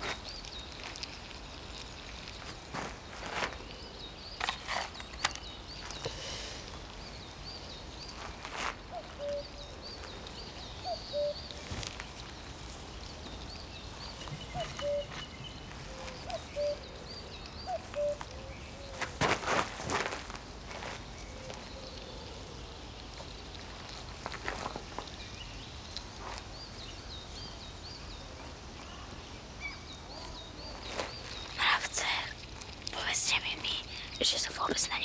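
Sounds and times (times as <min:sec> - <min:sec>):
birds chirping: 0:00.0 - 0:19.2, 0:20.7 - 0:35.0
pebbles clicking on gravel: 0:00.0 - 0:27.4, 0:30.2 - 0:35.0.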